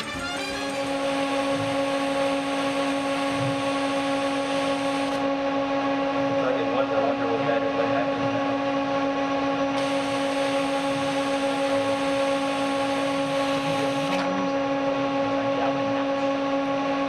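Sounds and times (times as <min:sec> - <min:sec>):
robot arm electrical hum: 0:00.0 - 0:17.0.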